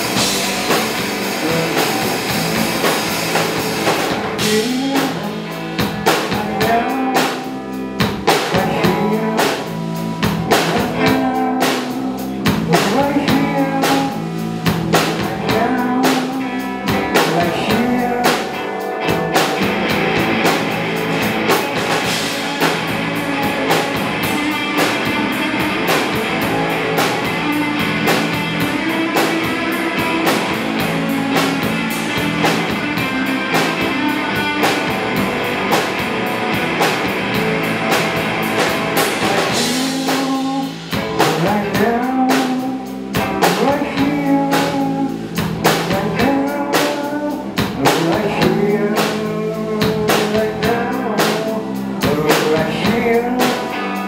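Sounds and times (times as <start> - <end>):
bass guitar: 0.0 - 54.0
drum kit: 0.0 - 54.0
electric guitar: 0.0 - 54.0.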